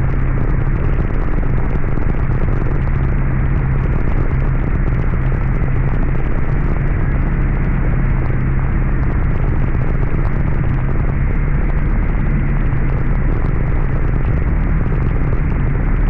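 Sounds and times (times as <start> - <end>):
constant low hum: 0.0 - 16.0
heavy rain downpour: 0.0 - 16.0.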